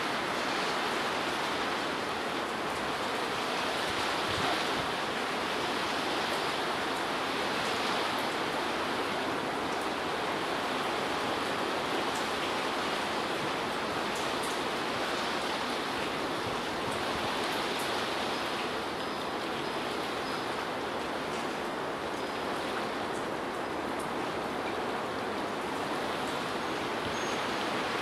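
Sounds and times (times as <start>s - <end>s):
heavy rain and wind: 0.0s - 28.0s.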